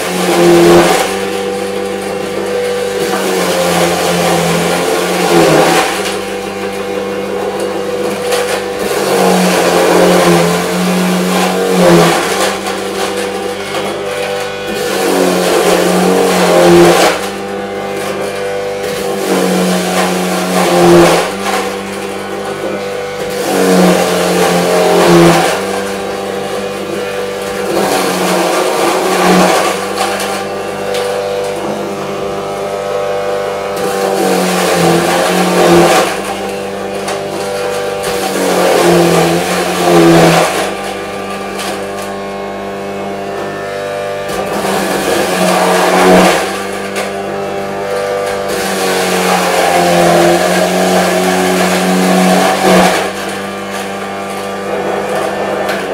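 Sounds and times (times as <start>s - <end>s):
electric grater motor running: 0.0s - 55.9s
potatoes grinding on cutter: 0.0s - 55.9s.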